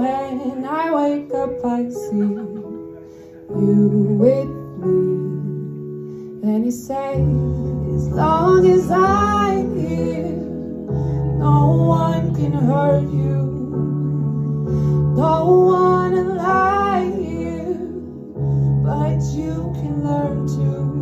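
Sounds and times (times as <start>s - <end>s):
woman singing into microphone: 0.0s - 2.9s, 3.5s - 5.8s, 6.4s - 21.0s.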